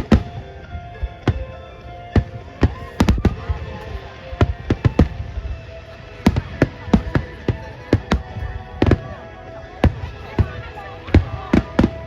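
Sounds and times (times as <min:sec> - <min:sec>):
background music: 0:00.0 - 0:12.0
fireworks bangs: 0:00.0 - 0:12.0
voices: 0:00.0 - 0:12.0.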